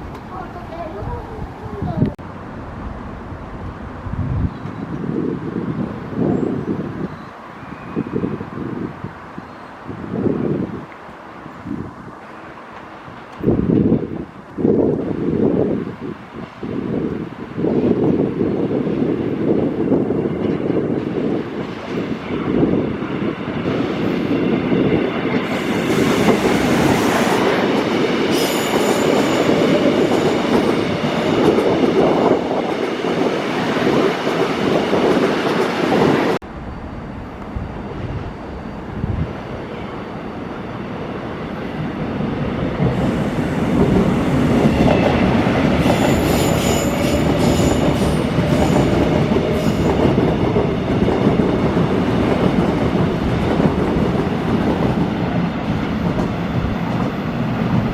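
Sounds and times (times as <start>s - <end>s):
train wheels rumbling on rail: 0.0s - 57.9s.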